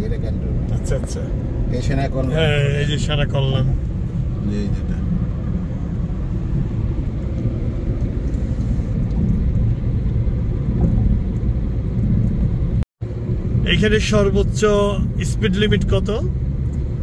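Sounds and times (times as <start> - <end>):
car cabin road and engine rumble: 0.0 - 17.0.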